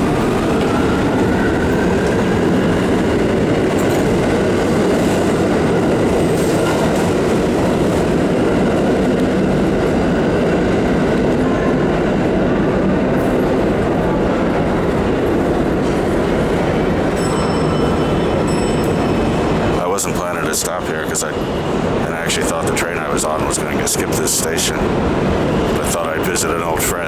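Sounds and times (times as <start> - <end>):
subway trains rumbling on tracks: 0.0 - 27.0.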